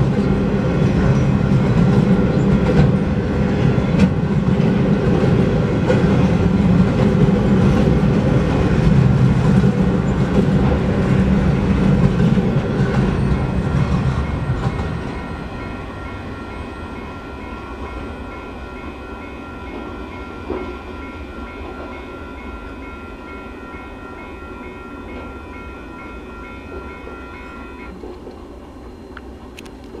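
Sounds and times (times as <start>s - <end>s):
freight train wheels clattering: 0.0s - 28.4s
crossing warning bells ringing: 0.0s - 29.6s.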